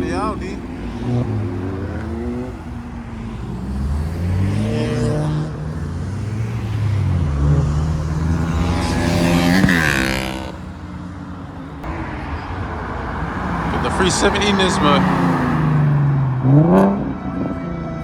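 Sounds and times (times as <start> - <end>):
cars accelerating past: 0.0 - 18.0.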